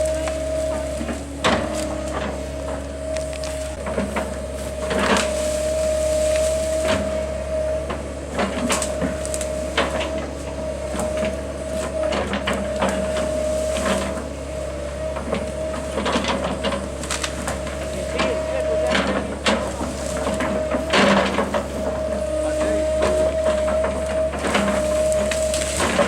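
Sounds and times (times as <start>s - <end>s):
wood cracking and snapping: 0.0s - 3.8s, 7.9s - 26.0s
excavator engine whining: 0.0s - 26.0s.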